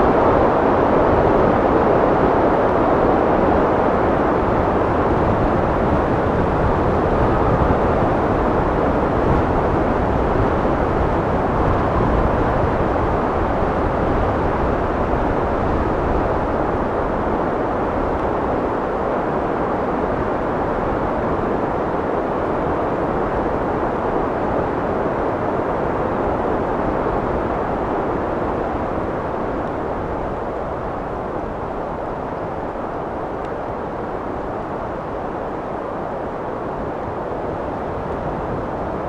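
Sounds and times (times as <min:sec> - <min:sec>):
steady rushing wind: 0:00.0 - 0:39.0.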